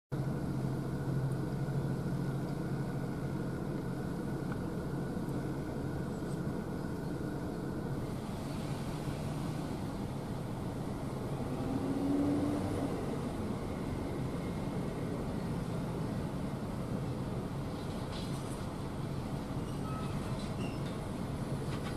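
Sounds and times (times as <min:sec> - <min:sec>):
locomotive diesel engine humming: 0:00.1 - 0:21.9
freight cars rolling by: 0:00.2 - 0:21.9.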